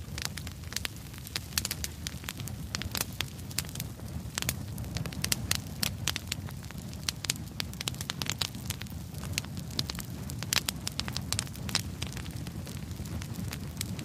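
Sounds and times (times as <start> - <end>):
low rumble of flames: 0.0 - 14.0
wood crackling and popping: 0.0 - 14.0.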